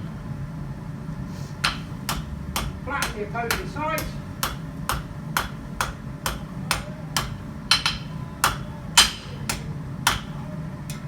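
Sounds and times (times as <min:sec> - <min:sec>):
hammer striking steel on anvil: 0:01.6 - 0:11.0.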